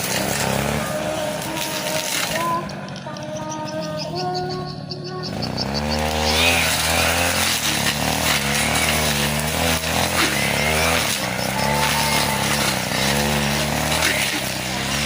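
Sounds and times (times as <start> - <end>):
brush cutter cutting grass: 0.0 - 15.0.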